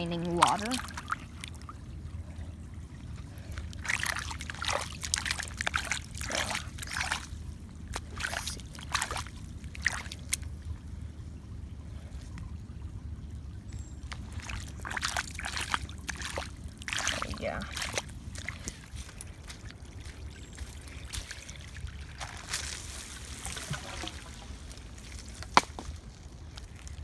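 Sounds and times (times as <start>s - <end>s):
steady low rumble: 0.0s - 27.0s
water splashes: 0.0s - 27.0s
water trickling into a drain: 0.0s - 27.0s.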